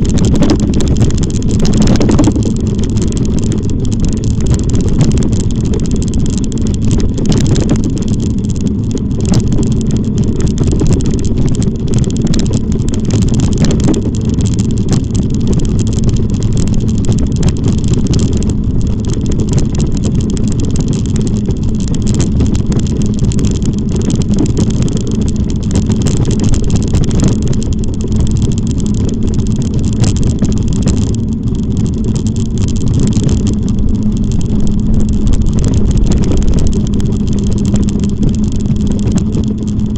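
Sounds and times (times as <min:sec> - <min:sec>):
small ticks and rattles: 0:00.0 - 0:39.9
wind rumbling on microphone: 0:00.0 - 0:39.9.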